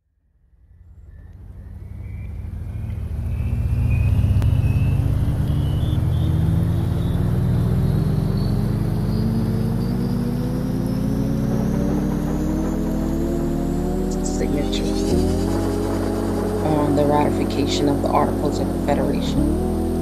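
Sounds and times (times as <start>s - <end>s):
deep rumbling drone: 0.0s - 20.0s
tones rising in pitch: 1.9s - 20.0s.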